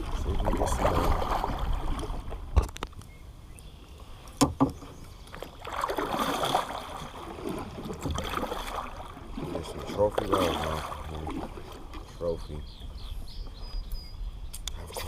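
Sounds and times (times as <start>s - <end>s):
water sloshing and lapping: 0.0s - 3.0s, 3.9s - 14.0s.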